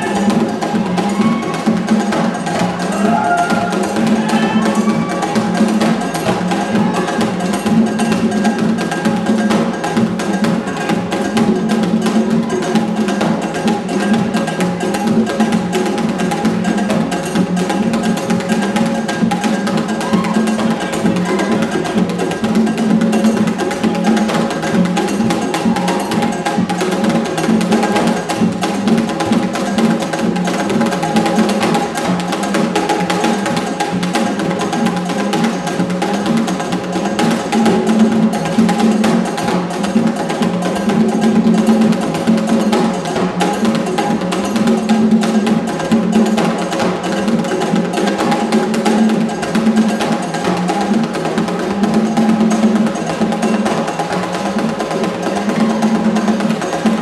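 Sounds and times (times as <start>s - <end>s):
drums playing dance rhythm: 0.0s - 57.0s.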